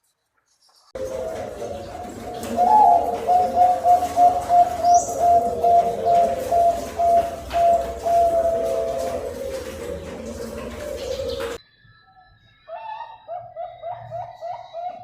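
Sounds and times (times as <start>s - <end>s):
dove cooing: 1.0s - 11.6s, 12.8s - 15.0s.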